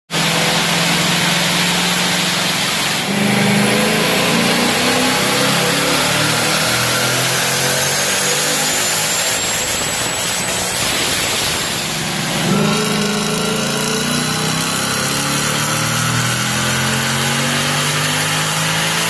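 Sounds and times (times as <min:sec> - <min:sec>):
high supercharger whine: 0:00.1 - 0:19.0
supercharged car engine on dyno: 0:00.1 - 0:19.0.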